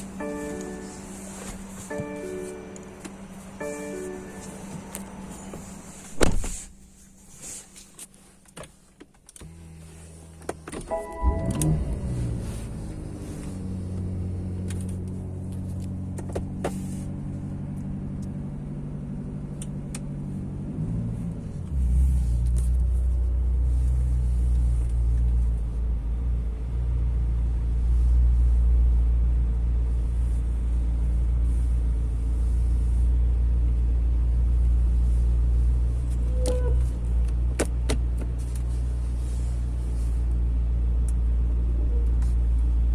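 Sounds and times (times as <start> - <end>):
car engine starting and idling: 0.0 - 42.9.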